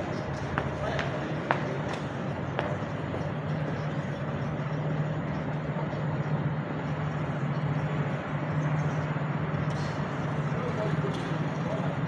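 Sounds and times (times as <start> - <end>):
electric hoist motors humming: 0.0 - 12.0.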